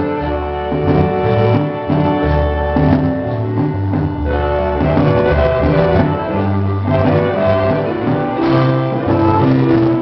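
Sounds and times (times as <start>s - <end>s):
marimba ensemble dance music: 0.0s - 10.0s.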